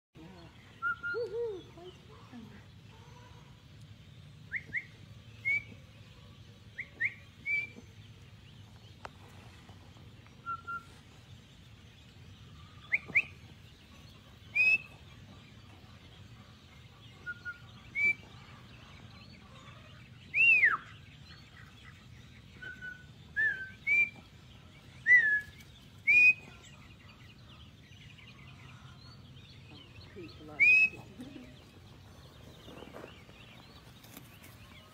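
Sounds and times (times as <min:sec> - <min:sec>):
ducklings peeping: 0:00.2 - 0:34.9.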